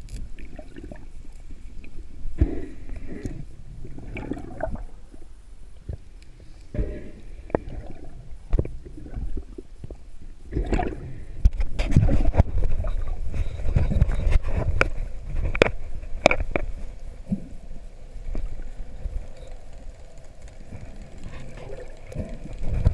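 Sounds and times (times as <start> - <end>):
underwater sloshing and rumbling: 0.0 - 22.9.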